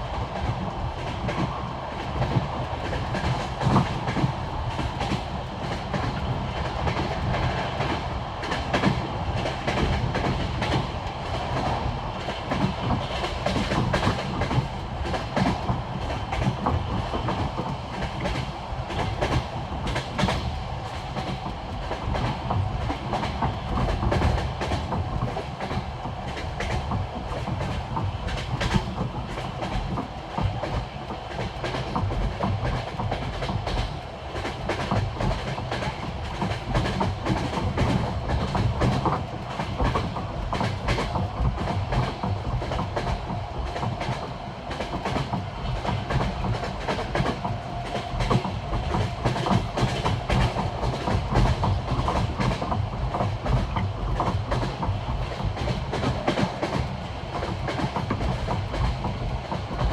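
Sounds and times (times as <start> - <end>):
rolling train rumble: 0.0 - 59.9
train wheels clickety-clack: 0.0 - 59.9.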